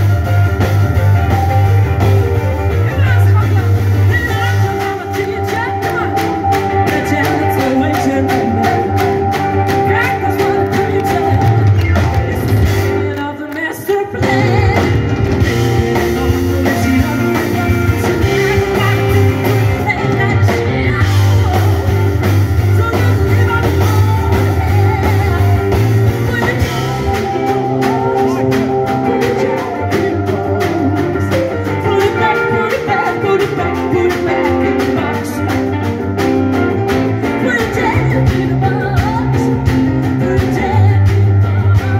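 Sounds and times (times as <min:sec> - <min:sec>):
soul blues-rock band playing: 0:00.0 - 0:41.9
woman singing: 0:02.8 - 0:36.1, 0:37.1 - 0:41.9.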